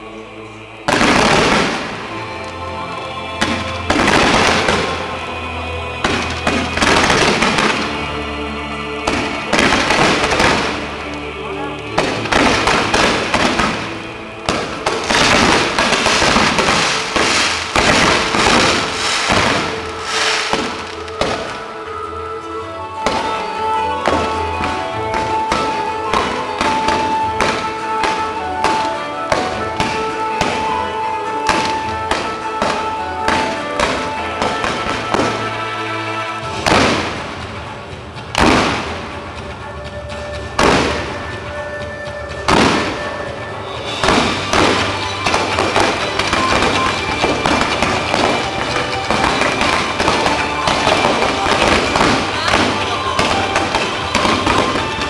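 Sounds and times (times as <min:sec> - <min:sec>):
music playing: 0:00.0 - 0:55.0
fireworks launching and crackling: 0:00.9 - 0:08.4, 0:09.0 - 0:22.3, 0:23.0 - 0:55.0.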